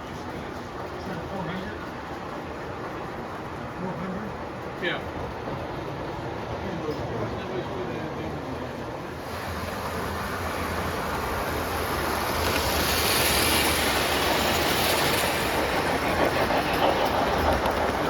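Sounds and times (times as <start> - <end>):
model train wheels rumbling on rail: 0.0 - 18.0.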